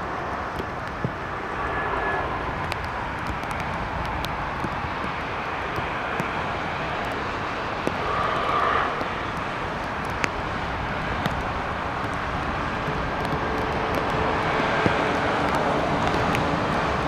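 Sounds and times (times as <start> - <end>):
jet engine noise: 0.0 - 17.0.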